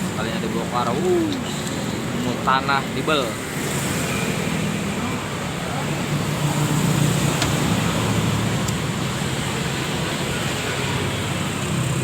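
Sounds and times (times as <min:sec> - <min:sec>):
road traffic noise: 0:00.0 - 0:12.0
vehicle engine hum: 0:00.0 - 0:12.0.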